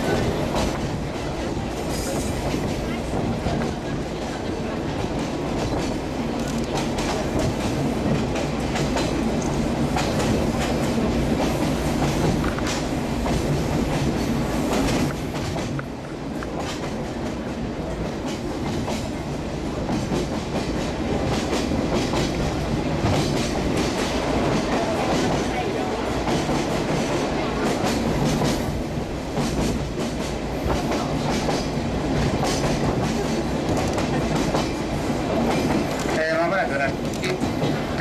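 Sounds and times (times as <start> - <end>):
train rumbling along track: 0.0 - 38.0.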